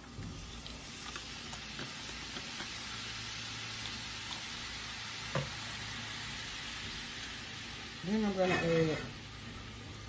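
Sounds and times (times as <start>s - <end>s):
roux sizzling in a skillet: 0.0s - 10.0s.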